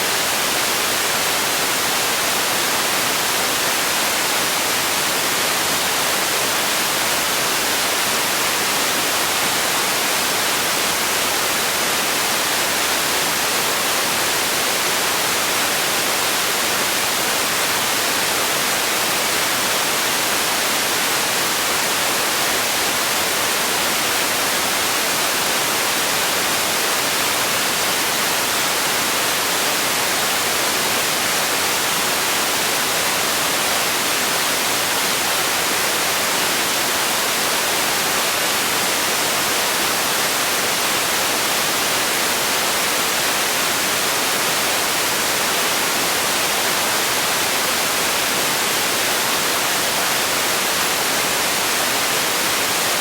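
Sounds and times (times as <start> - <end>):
steady hiss noise: 0.0 - 53.0.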